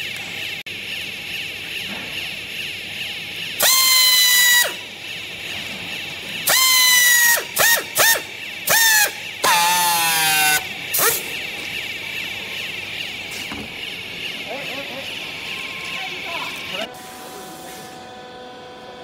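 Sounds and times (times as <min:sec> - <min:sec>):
strapping tool motor whining: 0:00.0 - 0:17.4.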